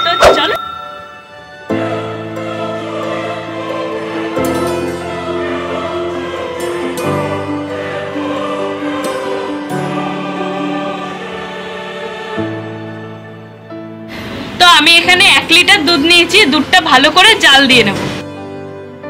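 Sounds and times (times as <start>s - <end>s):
slow sustained chords music: 0.0s - 19.0s.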